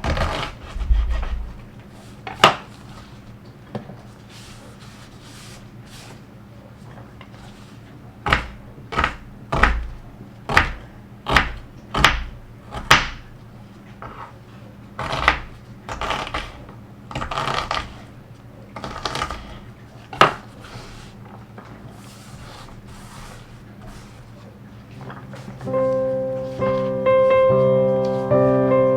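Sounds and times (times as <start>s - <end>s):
scraping and rustling: 0.0s - 10.0s, 13.7s - 28.4s.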